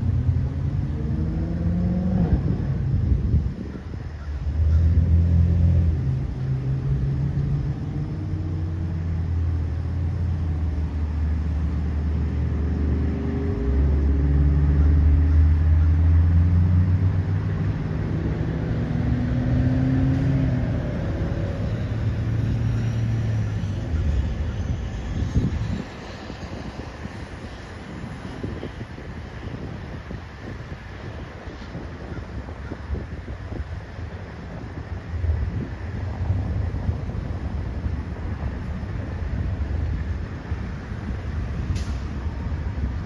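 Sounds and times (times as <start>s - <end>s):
vehicle engine rumble: 0.0s - 43.0s.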